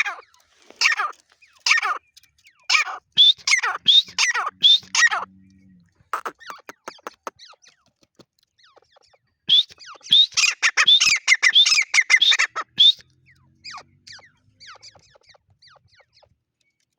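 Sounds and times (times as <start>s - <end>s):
francolin calling: 0.0s - 7.4s, 9.5s - 15.8s.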